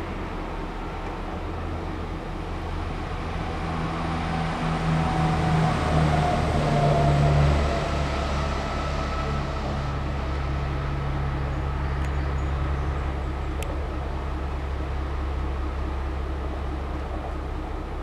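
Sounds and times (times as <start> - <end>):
diesel locomotive engine humming: 0.0 - 18.0.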